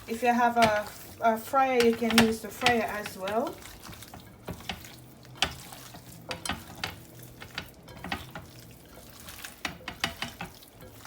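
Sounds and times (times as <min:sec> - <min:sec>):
hands rubbing raw chicken: 0:00.6 - 0:11.0.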